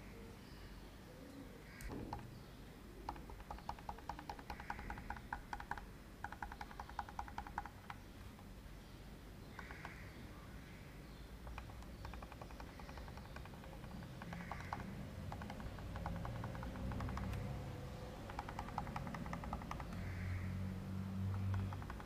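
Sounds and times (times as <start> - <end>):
faint bird trill: 0.0 - 8.4, 9.4 - 20.6.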